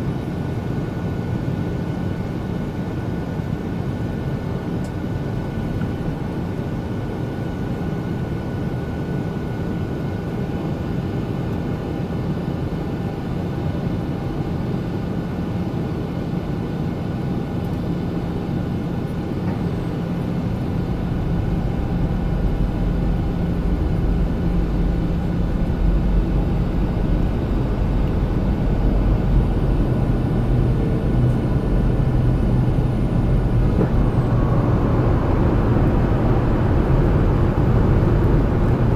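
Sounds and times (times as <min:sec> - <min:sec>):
aircraft cabin engine rumble: 0:00.0 - 0:38.9
constant hum: 0:00.0 - 0:38.9.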